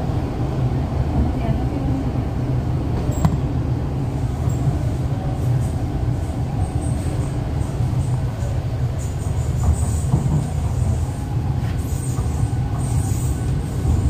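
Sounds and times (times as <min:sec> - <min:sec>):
train running low rumble: 0:00.0 - 0:14.0.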